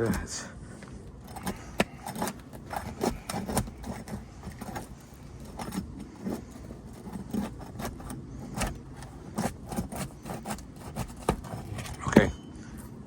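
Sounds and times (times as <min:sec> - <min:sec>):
tool scraping shingles: 0:00.0 - 0:13.0.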